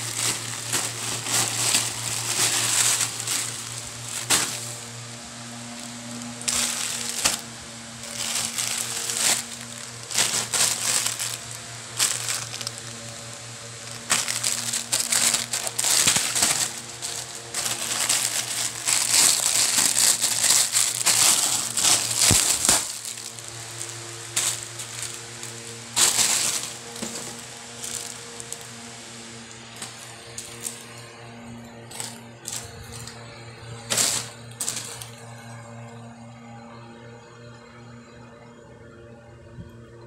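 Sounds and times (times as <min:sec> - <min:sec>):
plastic bag crinkling: 0:00.0 - 0:28.9, 0:29.6 - 0:35.6.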